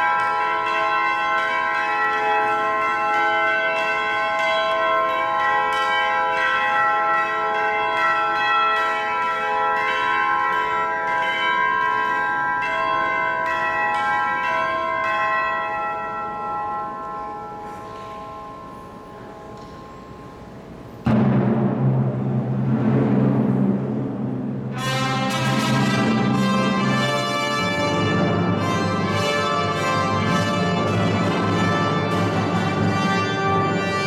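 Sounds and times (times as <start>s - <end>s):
tubular bells pealing: 0.0s - 34.0s.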